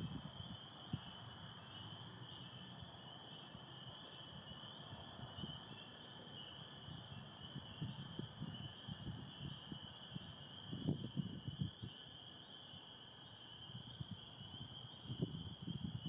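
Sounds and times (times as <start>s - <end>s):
toads trilling: 0.0s - 12.9s
spring peepers chorus: 0.0s - 16.0s.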